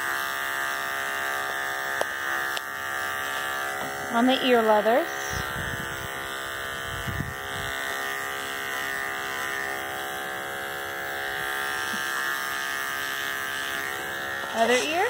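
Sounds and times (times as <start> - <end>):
electric clippers buzzing: 0.0 - 15.0.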